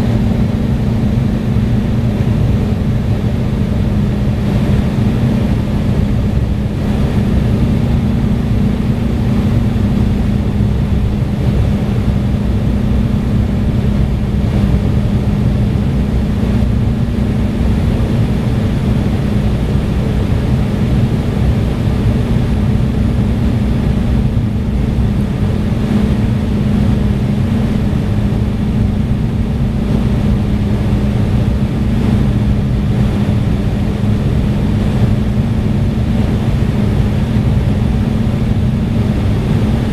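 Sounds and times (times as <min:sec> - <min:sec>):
jet cabin air rush: 0:00.0 - 0:39.9
steady low hum: 0:00.0 - 0:39.9
turbofan engine drone: 0:00.0 - 0:39.9.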